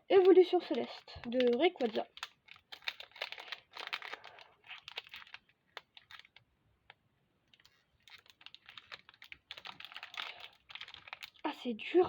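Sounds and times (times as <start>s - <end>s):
foil wrapper crinkling: 0.0s - 6.5s, 7.5s - 11.6s.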